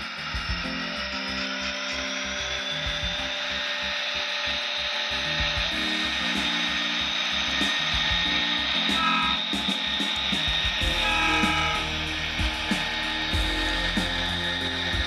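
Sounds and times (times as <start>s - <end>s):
background music with beat: 0.0s - 15.0s
model locomotive whine: 0.0s - 15.0s.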